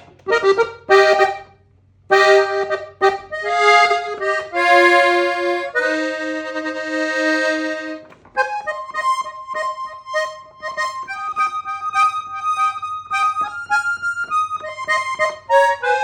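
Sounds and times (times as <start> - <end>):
accordion key clicks: 0.0 - 1.4, 2.1 - 16.0
accordion playing: 0.0 - 16.0.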